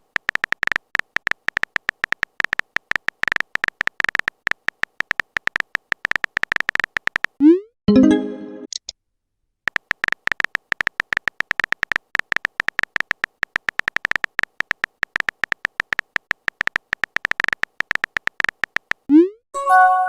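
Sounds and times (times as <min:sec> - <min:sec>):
beeping key taps: 0:00.1 - 0:07.4, 0:09.7 - 0:19.1.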